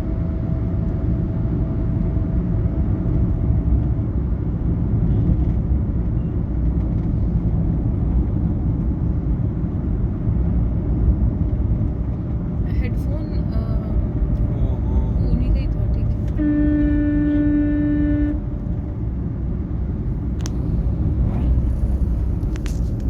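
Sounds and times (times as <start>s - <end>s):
vehicle rumble from inside cabin: 0.0s - 23.0s.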